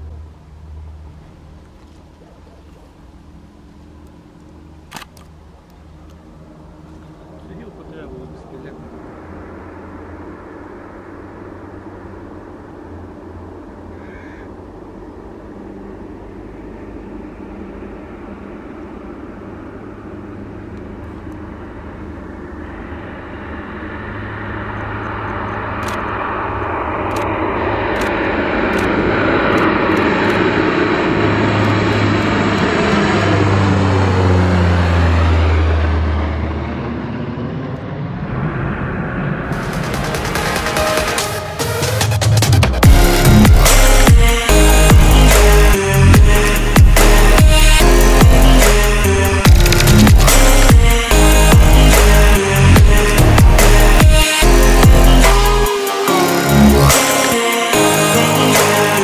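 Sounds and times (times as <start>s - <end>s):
turboprop aircraft taking off: 0.0s - 59.0s.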